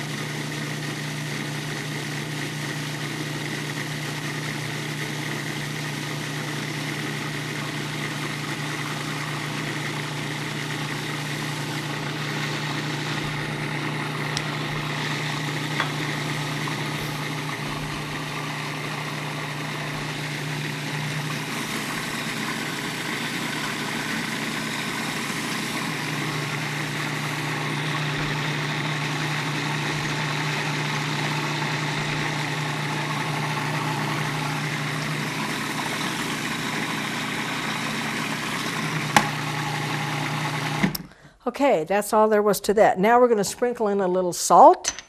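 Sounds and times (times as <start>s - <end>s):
food processor motor running: 0.0s - 41.2s.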